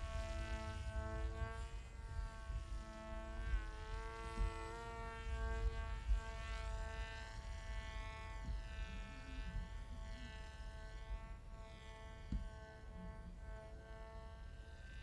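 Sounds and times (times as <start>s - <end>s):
electric motor buzzing whine: 0.0s - 15.0s.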